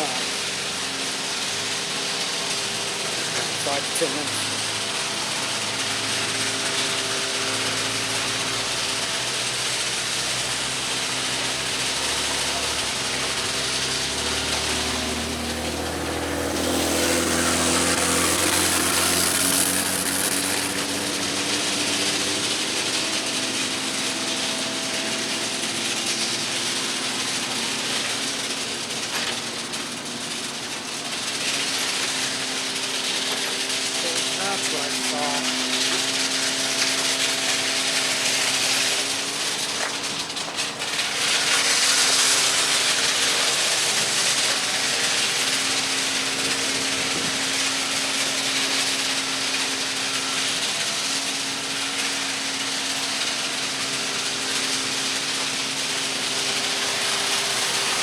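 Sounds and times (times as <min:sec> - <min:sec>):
diesel engine running: 0:00.0 - 0:58.0
hiss: 0:00.0 - 0:58.0.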